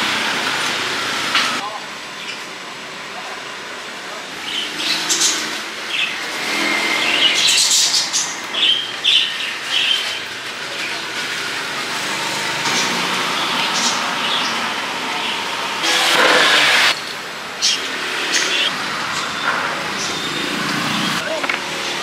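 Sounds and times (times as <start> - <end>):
passing traffic: 0.0 - 22.0.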